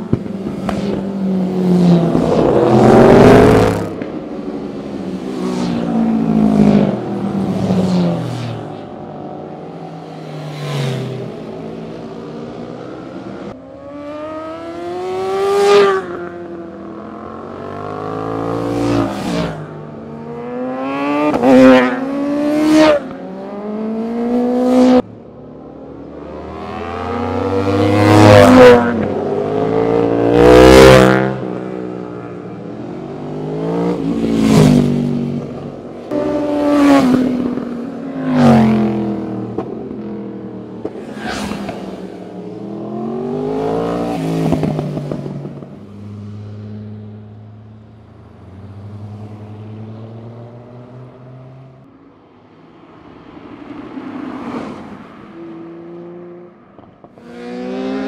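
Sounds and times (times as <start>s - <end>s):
car passing: 0.0s - 25.0s, 26.0s - 58.0s
motorcycles passing by: 0.0s - 51.9s, 53.1s - 58.0s.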